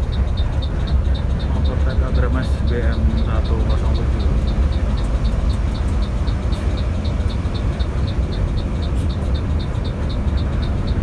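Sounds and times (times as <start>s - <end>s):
bus engine rumble: 0.0s - 11.0s
faint regular ticking: 0.0s - 11.0s.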